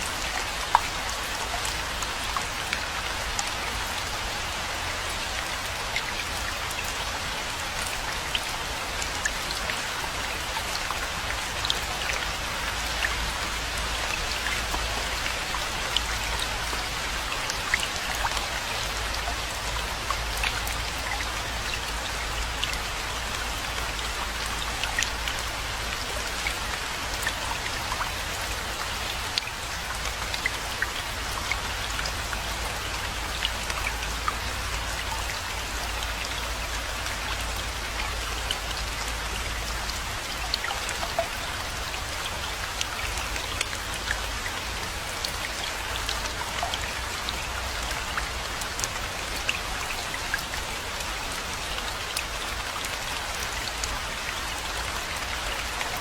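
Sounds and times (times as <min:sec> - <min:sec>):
rain drops pattering: 0:00.0 - 0:56.0
rain hiss: 0:00.0 - 0:56.0.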